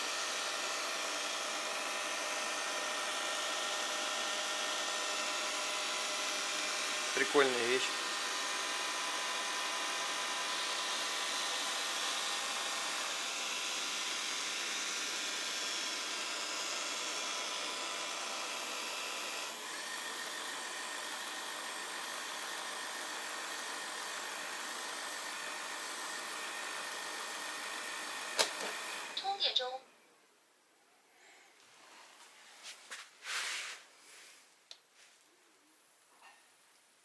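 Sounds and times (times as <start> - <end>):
robot vacuum cleaner whine: 0.0 - 29.7.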